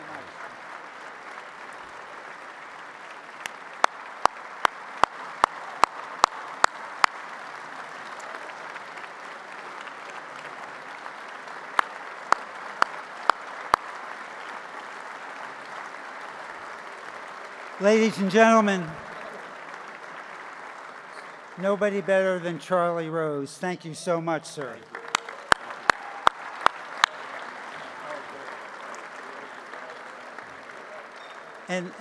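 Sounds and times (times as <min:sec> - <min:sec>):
loud hand claps close to microphone: 0:00.0 - 0:21.7, 0:24.8 - 0:32.0
audience applauding: 0:00.0 - 0:32.0.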